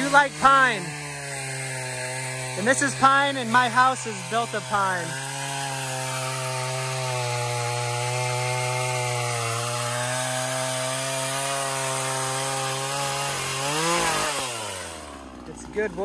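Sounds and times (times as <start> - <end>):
chainsaw engine running: 0.0 - 16.0.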